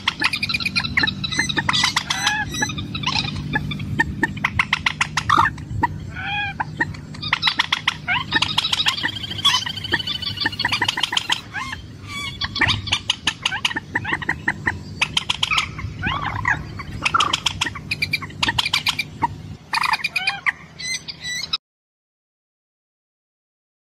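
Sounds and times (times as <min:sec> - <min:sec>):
steady low hum: 0:00.0 - 0:21.6
waterbird clicky calls and squawks: 0:00.0 - 0:21.6.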